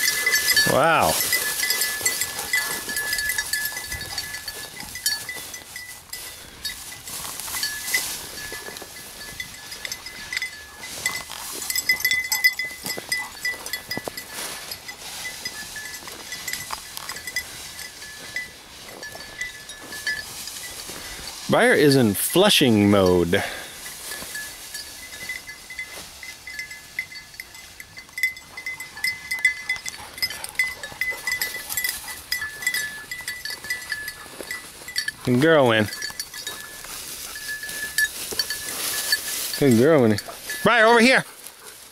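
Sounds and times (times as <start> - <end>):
dog collar bell jingling: 0.0 - 41.9
rustle of brush and dry grass: 0.0 - 41.9.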